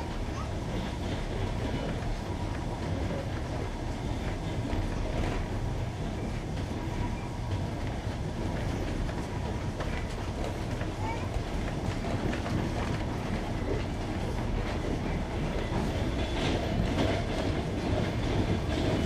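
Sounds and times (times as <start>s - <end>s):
train carriage rumble: 0.0s - 19.0s
wheels clicking over rail joints: 0.0s - 19.0s.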